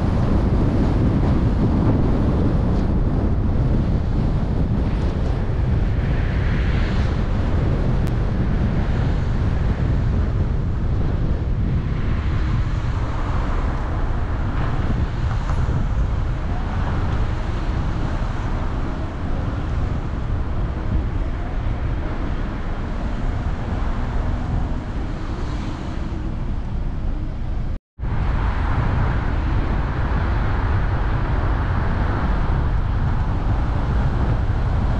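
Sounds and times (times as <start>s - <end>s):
road and wind rumble: 0.0s - 34.9s
wind buffeting microphone: 0.0s - 34.9s.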